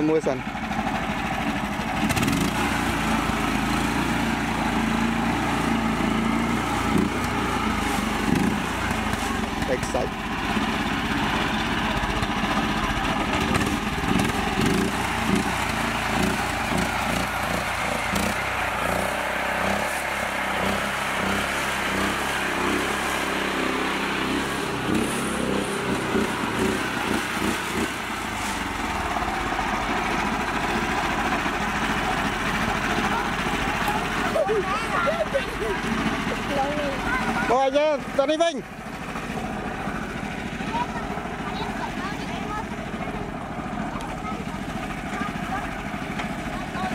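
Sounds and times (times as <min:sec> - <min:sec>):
small tractor engine running: 0:00.0 - 0:46.9.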